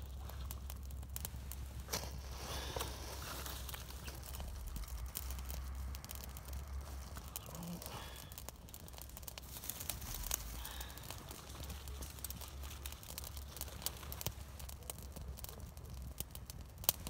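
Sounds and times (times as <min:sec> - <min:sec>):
campfire crackling and popping: 0:00.0 - 0:17.0
fire low rumble: 0:00.0 - 0:17.0.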